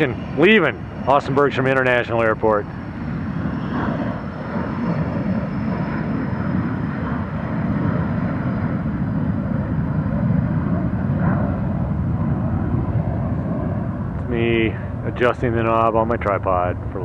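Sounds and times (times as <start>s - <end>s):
aircraft engine rumble: 0.0s - 17.0s
faint high whine: 0.0s - 17.0s.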